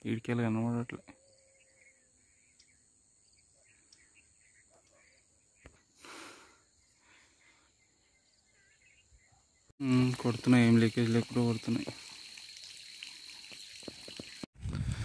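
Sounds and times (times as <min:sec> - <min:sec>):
crickets droning: 0:01.2 - 0:14.5.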